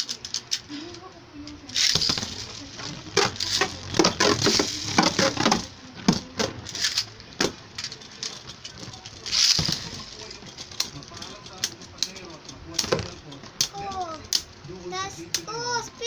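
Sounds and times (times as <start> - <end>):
plastic spinning top whirring: 0.0 - 14.6
rapid clicks and clattering: 1.5 - 14.6.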